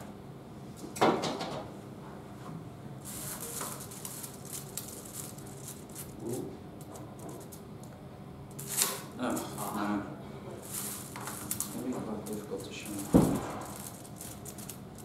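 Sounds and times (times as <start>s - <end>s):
overhead projector hum: 0.0s - 15.0s.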